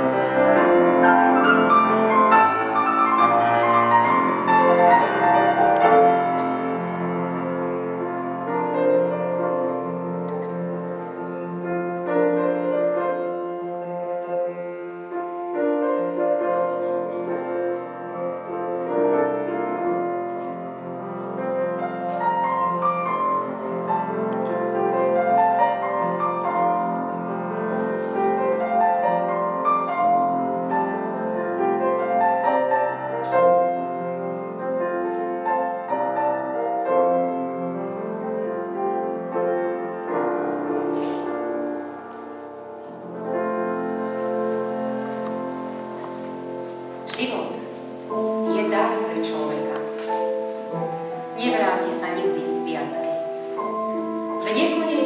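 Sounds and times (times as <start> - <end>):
grand piano piece: 0.0 - 55.0.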